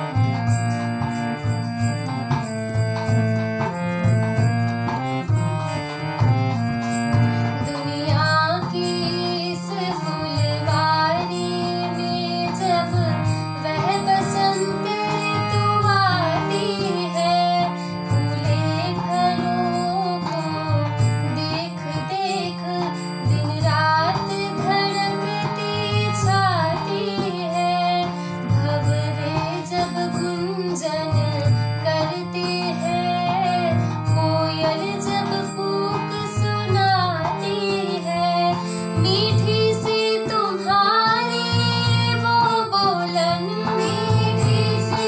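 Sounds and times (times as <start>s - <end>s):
harmonium chords: 0.0s - 45.0s
woman singing devotional song: 0.0s - 45.0s.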